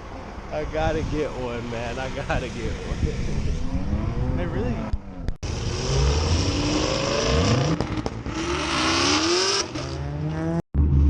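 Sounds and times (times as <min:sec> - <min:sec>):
car engine revving: 0:00.9 - 0:11.0.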